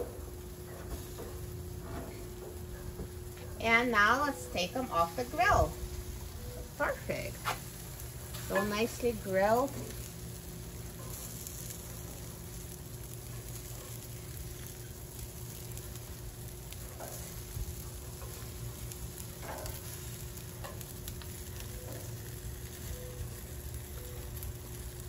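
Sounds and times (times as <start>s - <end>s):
chicken sizzling on a grill: 0.0s - 25.0s.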